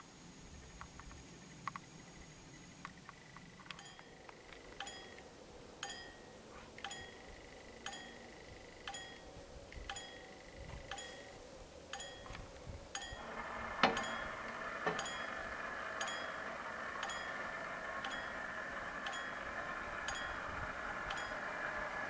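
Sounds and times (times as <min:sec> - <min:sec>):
mechanical barrier drive noise: 0:00.6 - 0:22.0
faint crossing warning bell: 0:03.8 - 0:22.0.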